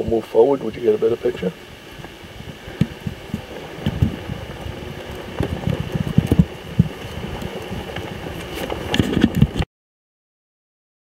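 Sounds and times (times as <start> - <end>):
golf cart rattling over ground: 0.5 - 9.6.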